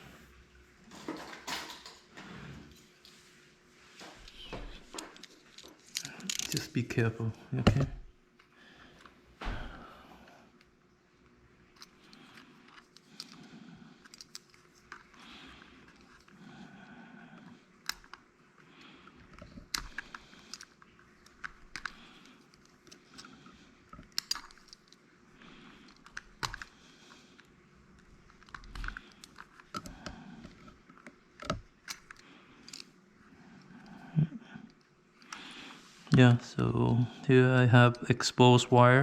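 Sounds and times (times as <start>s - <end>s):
wires rustling: 0.9s - 8.1s, 11.6s - 37.2s.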